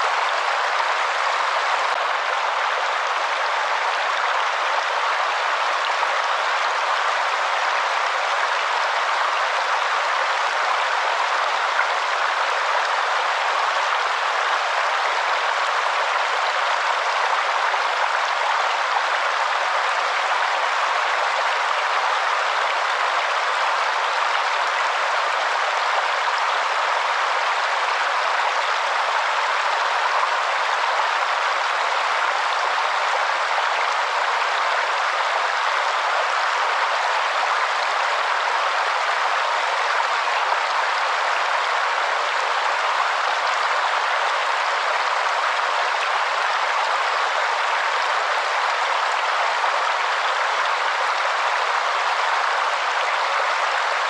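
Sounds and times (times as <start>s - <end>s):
waterfall rushing water: 0.0s - 54.0s.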